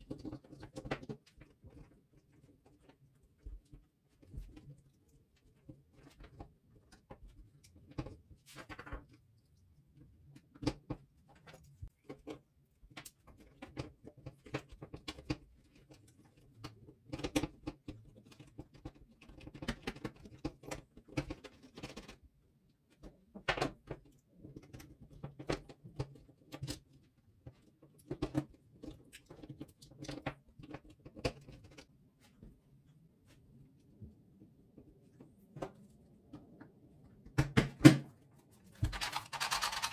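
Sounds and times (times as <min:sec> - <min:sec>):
plastic parts clicking and scraping: 0:00.0 - 0:32.0, 0:38.6 - 0:39.9.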